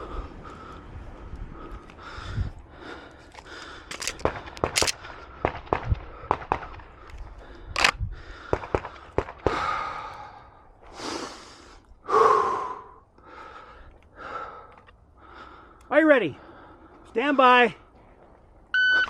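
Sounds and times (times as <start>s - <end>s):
heavy breathing close to microphone: 0.0s - 17.1s.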